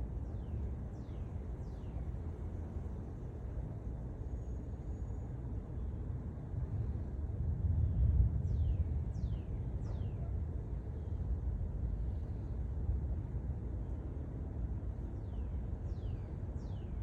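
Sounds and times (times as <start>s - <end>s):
low storm rumble: 0.0s - 17.0s.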